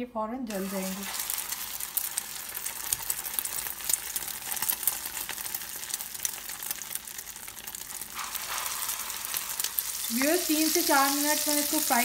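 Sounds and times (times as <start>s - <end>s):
patty sizzling in oil: 0.5s - 12.0s.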